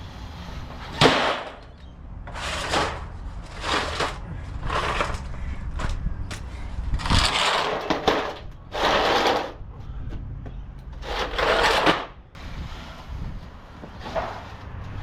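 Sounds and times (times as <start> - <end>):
yard debris rustling and scraping: 0.0 - 9.9, 10.9 - 15.0.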